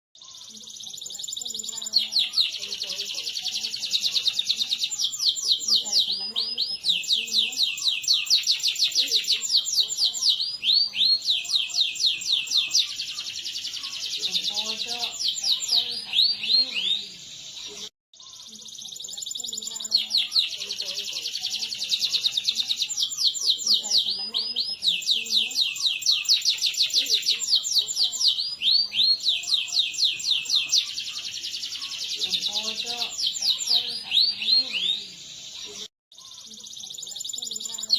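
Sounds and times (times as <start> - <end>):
canary singing: 0.2 - 37.9.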